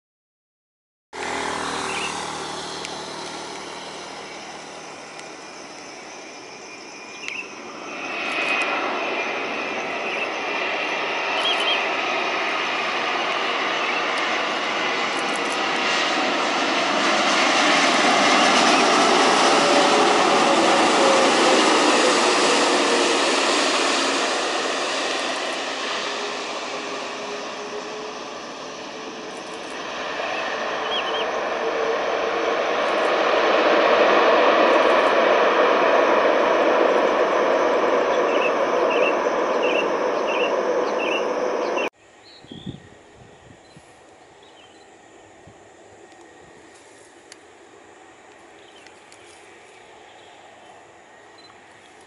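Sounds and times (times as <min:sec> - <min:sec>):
jet airliner rumble and whine: 0:01.2 - 0:52.0.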